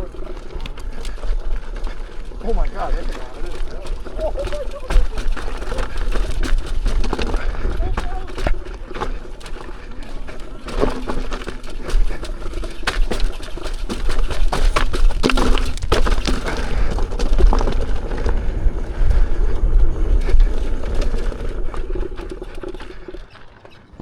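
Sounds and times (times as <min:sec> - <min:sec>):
wind rumbling on microphone: 0:00.0 - 0:23.3
knocks and rattles over bumps: 0:00.0 - 0:24.0.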